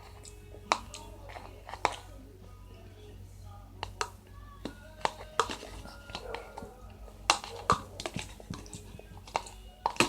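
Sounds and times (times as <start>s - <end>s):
utensil clicking against a cup: 0.1s - 2.1s, 3.8s - 10.0s.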